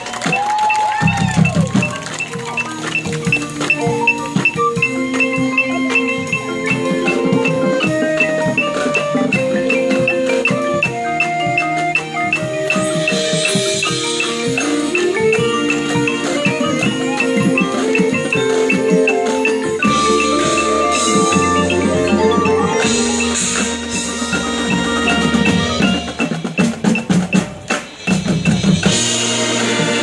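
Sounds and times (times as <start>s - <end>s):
marimbas xylophone and bells: 0.0s - 29.9s.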